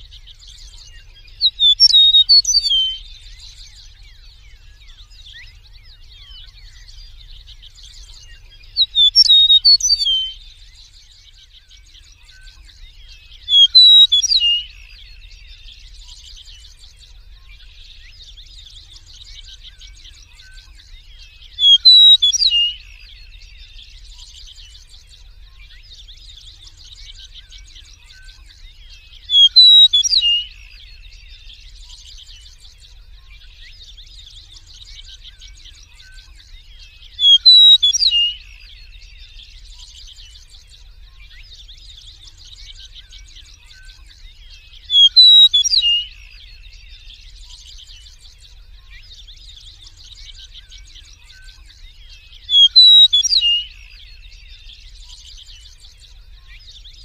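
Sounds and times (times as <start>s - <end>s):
bird singing slurred whistles: 0.0s - 11.0s, 12.2s - 18.2s, 18.8s - 25.6s, 28.9s - 32.6s, 34.5s - 40.4s, 42.2s - 49.0s, 49.8s - 56.6s.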